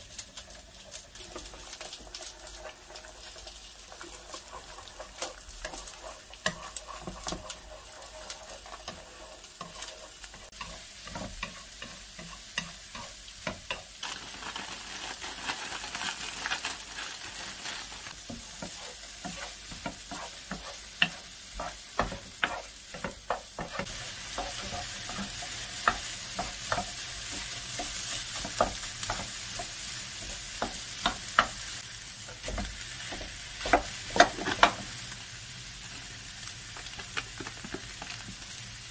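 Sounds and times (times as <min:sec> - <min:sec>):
eggs sizzling in a frying pan: 0:00.0 - 0:38.9
wooden spatula scraping a pan: 0:00.1 - 0:14.0, 0:17.3 - 0:34.9.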